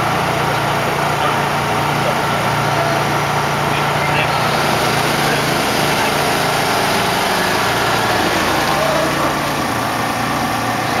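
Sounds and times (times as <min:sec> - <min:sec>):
small engines running: 0:00.0 - 0:11.0
voices talking: 0:00.4 - 0:11.0.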